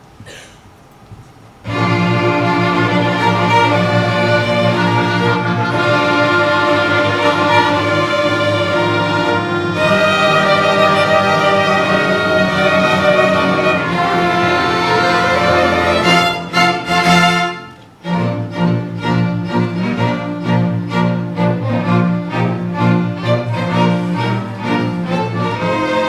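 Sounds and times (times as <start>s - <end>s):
bowed string ensemble: 1.6s - 26.0s.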